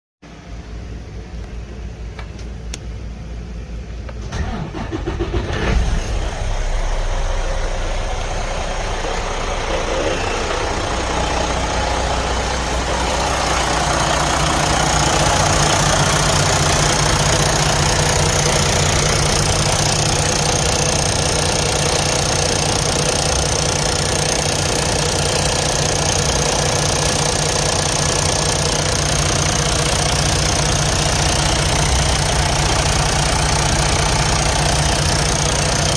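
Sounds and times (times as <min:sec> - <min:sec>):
diesel engine cranking and idling: 0:00.7 - 0:35.9.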